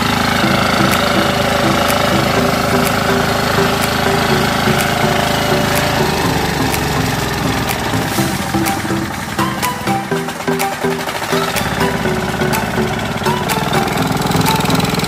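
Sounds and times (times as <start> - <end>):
power tiller engine running: 0.0 - 15.0.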